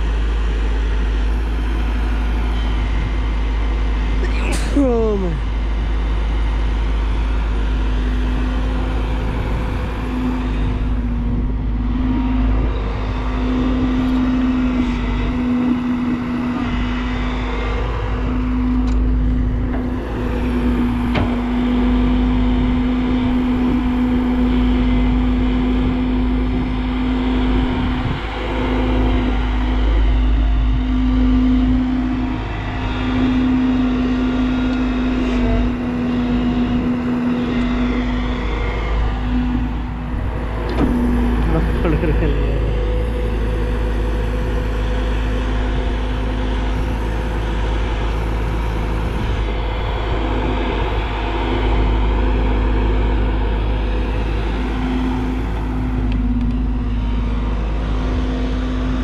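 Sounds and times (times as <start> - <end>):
excavator diesel engine humming: 0.0 - 59.0.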